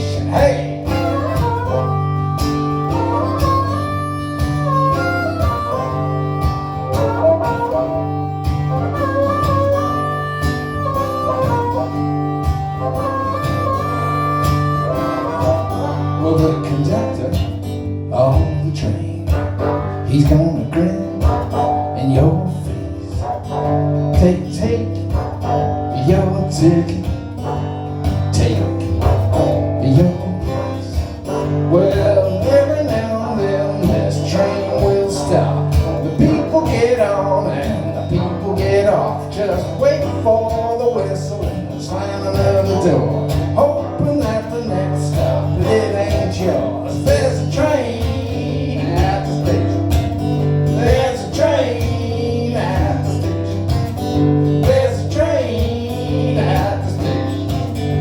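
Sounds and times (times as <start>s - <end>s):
guitar lead with bending notes: 0.0s - 58.0s
strummed acoustic guitar: 0.0s - 58.0s.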